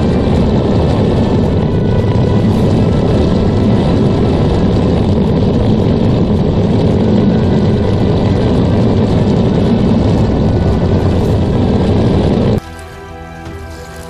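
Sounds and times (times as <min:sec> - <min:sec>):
electric motor whine: 0:00.0 - 0:14.0
tank tracks rumbling: 0:00.0 - 0:14.0.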